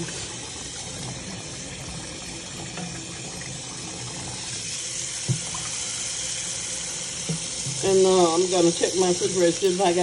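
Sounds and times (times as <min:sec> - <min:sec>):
water running into a sink: 0:00.0 - 0:10.0.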